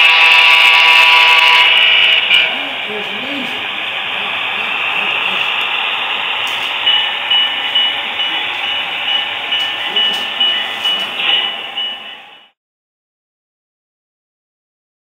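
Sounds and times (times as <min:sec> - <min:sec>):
model train wheels and motor: 0:00.0 - 0:12.6.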